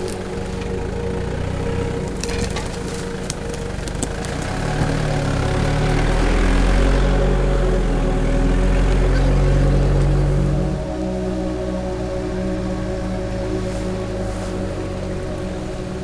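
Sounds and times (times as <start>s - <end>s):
suv engine crawling past: 0.0s - 16.0s.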